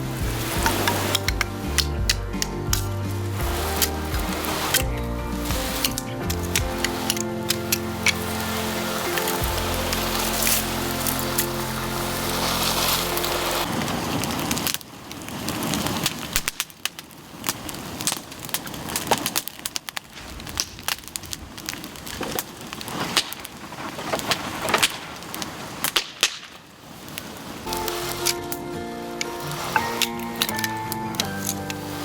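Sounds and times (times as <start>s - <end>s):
bamboo fire crackling and popping: 0.0s - 32.0s
flames rushing: 0.0s - 32.0s.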